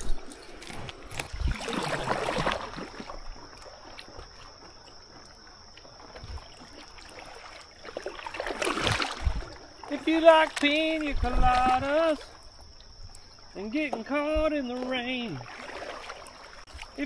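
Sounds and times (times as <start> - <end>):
water splashing against kayak: 0.0 - 17.0
water trickling: 0.0 - 17.0.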